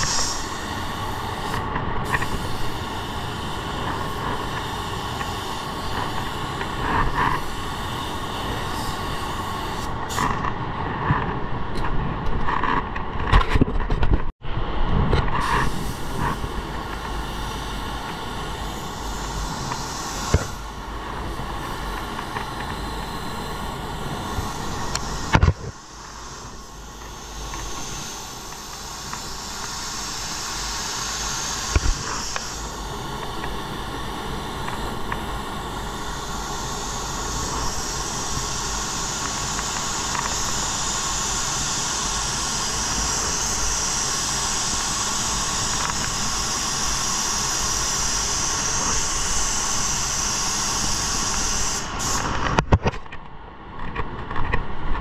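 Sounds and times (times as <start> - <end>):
spray gun hissing: 0.0 - 10.4, 15.4 - 52.5.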